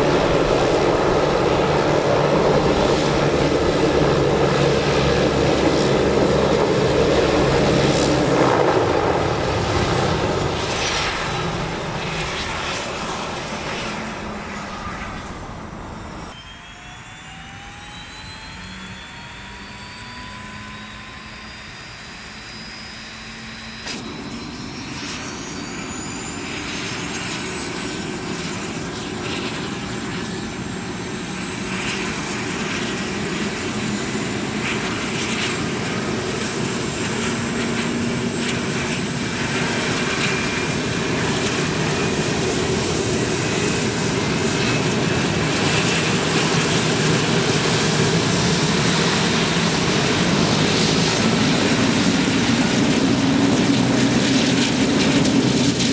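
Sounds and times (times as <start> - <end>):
turboprop engine starting up: 0.0 - 55.9.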